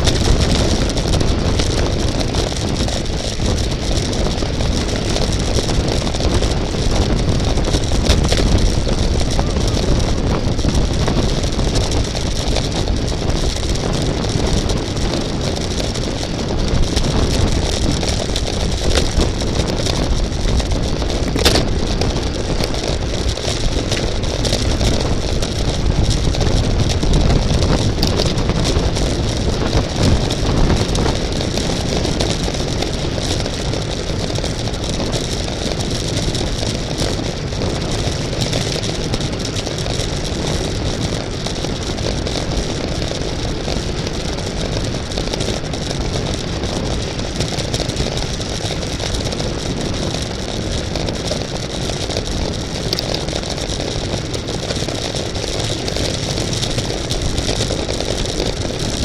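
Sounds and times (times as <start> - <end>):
bicycle road noise: 0.0 - 59.0
wind buffeting microphone: 0.0 - 59.0.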